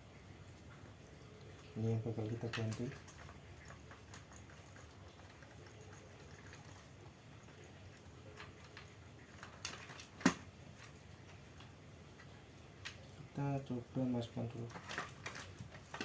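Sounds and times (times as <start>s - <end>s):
faint handling noises: 0.2s - 16.0s.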